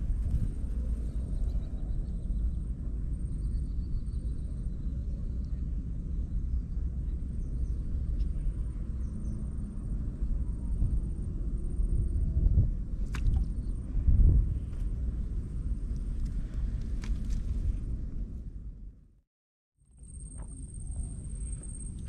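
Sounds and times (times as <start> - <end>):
low rumbling background noise: 0.0 - 19.2.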